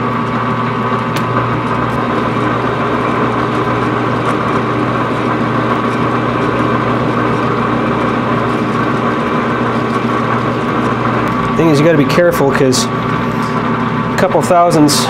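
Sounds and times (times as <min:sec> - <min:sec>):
metal lathe hum with gear whine: 0:00.0 - 0:15.0.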